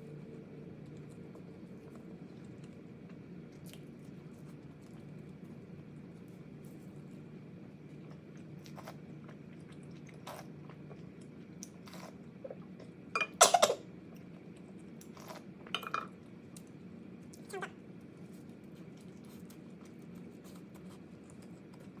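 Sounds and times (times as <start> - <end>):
soft chewing: 0.0 - 13.1, 14.0 - 22.0.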